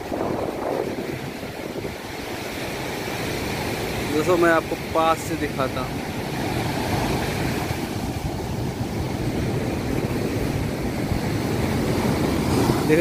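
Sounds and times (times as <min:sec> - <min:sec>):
wind rumbling on microphone: 0:00.0 - 0:04.0, 0:04.8 - 0:13.0
heavy surf breaking on shore: 0:00.0 - 0:13.0.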